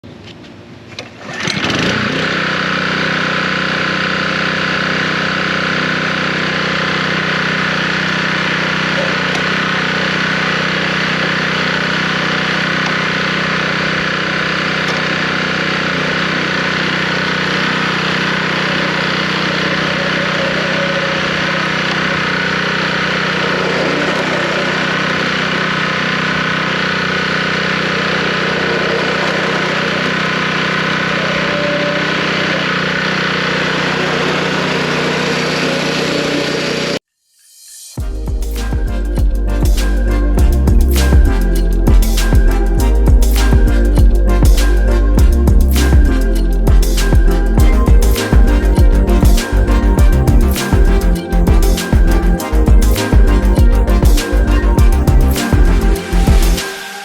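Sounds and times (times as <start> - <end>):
small gasoline engine running: 1.2 - 37.0, 38.0 - 57.0.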